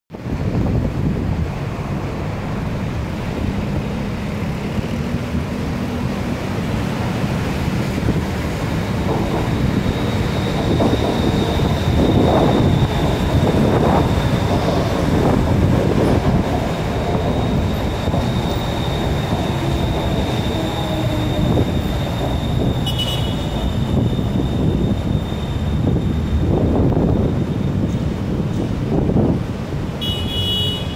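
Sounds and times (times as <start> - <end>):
electric train rumbling: 0.1 - 30.9
train high whine: 0.2 - 30.9.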